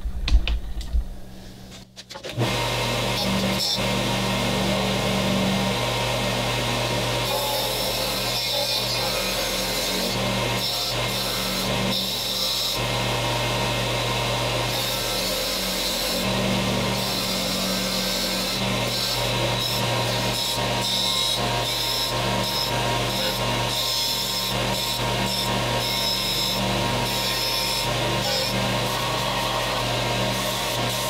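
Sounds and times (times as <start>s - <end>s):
sander motor hum: 1.6s - 31.0s.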